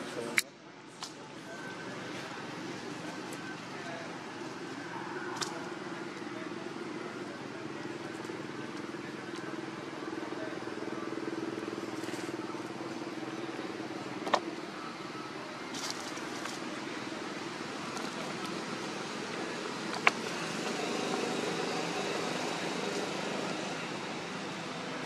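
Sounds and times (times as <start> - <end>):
distant traffic rumble: 0.0 - 25.0.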